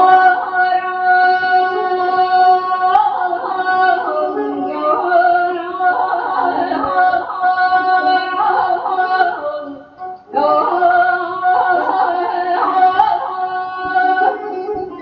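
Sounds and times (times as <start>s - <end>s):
woman singing with trills: 0.0s - 15.0s.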